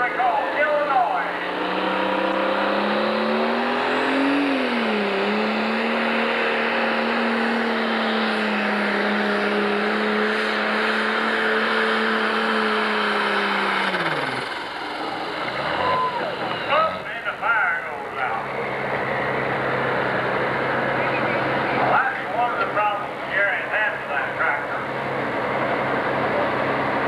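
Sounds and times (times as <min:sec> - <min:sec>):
diesel tractor engine at full throttle: 0:00.0 - 0:27.0.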